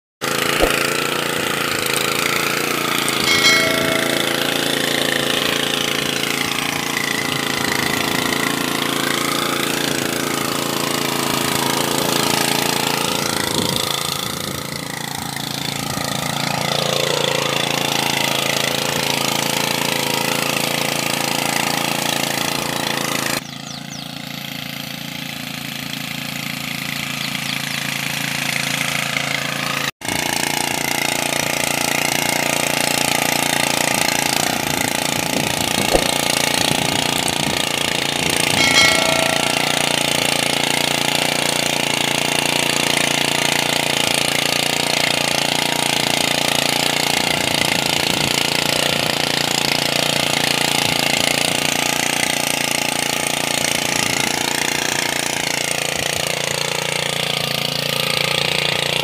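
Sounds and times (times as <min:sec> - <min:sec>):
power weeder engine running: 0:00.2 - 0:59.0.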